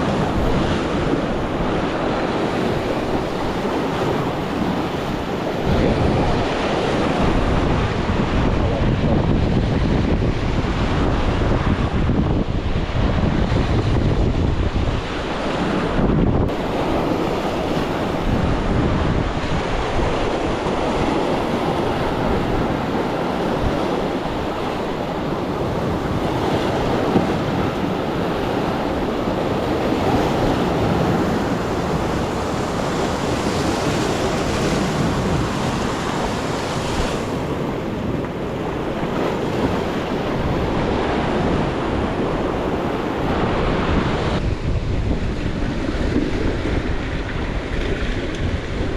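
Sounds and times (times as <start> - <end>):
sea waves washing: 0.0 - 48.9
wind buffeting microphone: 0.0 - 48.9.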